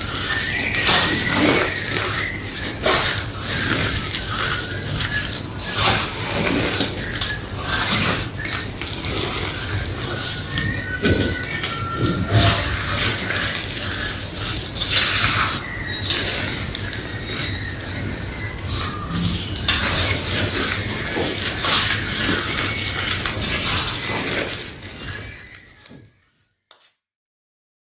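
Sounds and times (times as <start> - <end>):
chalk crunching and crumbling: 0.0 - 25.7.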